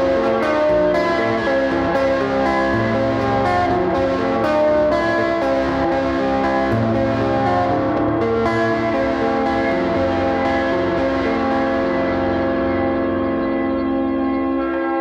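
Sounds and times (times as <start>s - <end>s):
electric guitar with heavy reverb: 0.0s - 15.0s
sustained drone: 0.0s - 15.0s.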